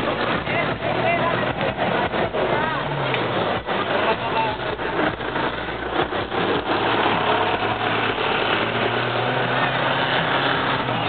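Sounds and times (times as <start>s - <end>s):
off-road vehicle engine humming: 0.0s - 11.0s.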